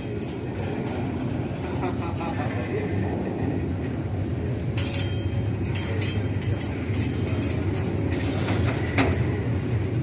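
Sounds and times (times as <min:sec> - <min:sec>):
train low rumble: 0:00.0 - 0:10.0
wheels clacking over rail joints: 0:00.0 - 0:10.0.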